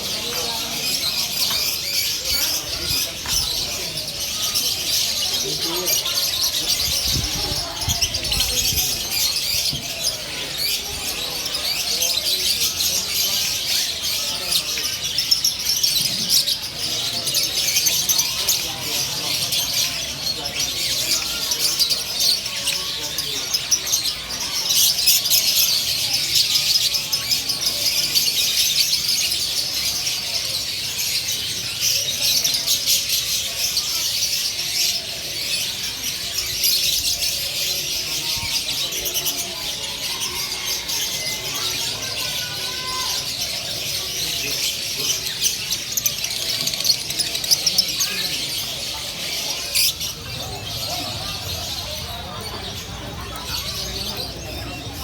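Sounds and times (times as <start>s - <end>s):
chorus of songbirds chirping: 0.0s - 55.0s
people talking faintly: 0.0s - 55.0s.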